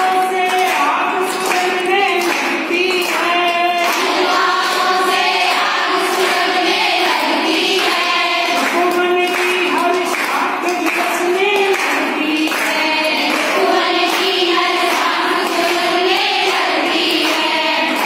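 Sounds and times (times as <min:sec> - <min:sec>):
women singing in unison: 0:00.0 - 0:18.0.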